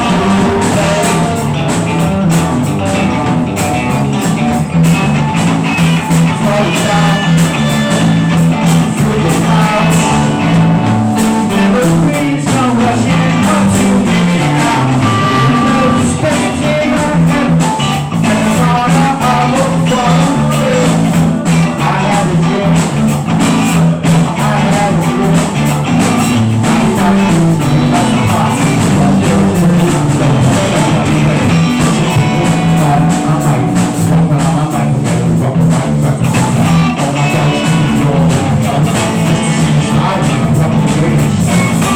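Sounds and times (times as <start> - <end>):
bass guitar: 0.0 - 41.9
drum kit steady beat: 0.0 - 41.9
electric guitar: 0.0 - 41.9.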